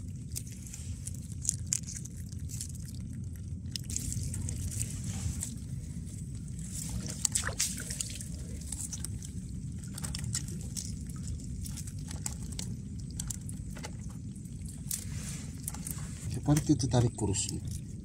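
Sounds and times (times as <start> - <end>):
steady low rumble: 0.0 - 18.0
water dripping and splashing: 0.0 - 18.0.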